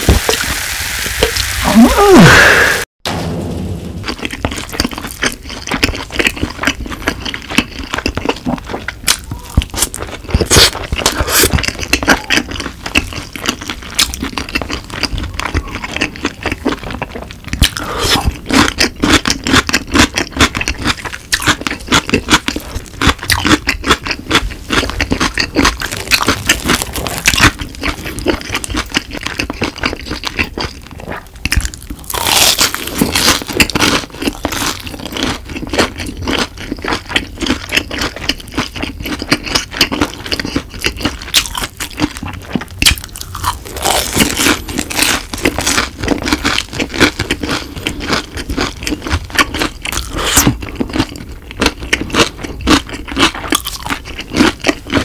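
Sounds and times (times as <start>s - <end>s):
crunching and chewing fried chicken: 4.0s - 55.0s
biting fried cheese stick: 4.1s - 55.0s.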